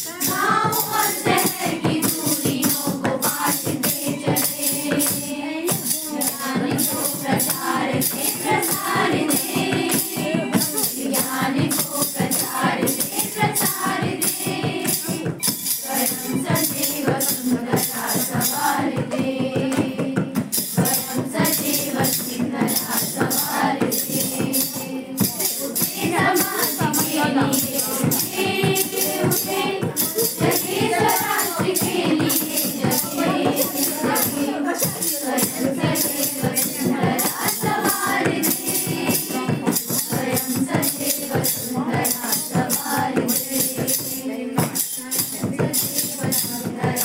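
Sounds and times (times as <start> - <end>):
group singing: 0.0 - 47.0
rhythmic hand-clapping or shaker: 0.0 - 47.0.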